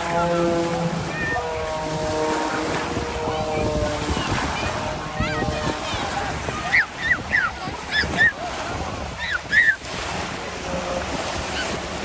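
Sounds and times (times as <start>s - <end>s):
lake waves washing on shore: 0.0s - 12.0s
wind on the microphone: 0.0s - 12.0s.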